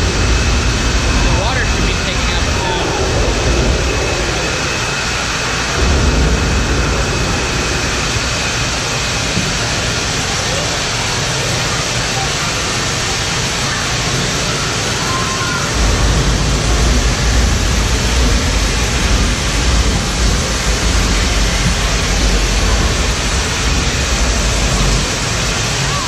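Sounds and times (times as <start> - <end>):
deep low rumble: 0.0 - 10.8, 14.1 - 26.0
falling water hissing: 0.0 - 26.0.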